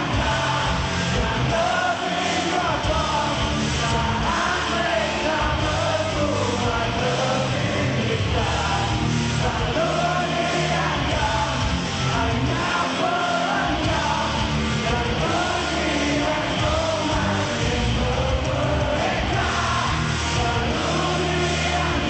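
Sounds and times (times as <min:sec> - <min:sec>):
live rock band: 0:00.0 - 0:22.0
person singing: 0:00.0 - 0:22.0.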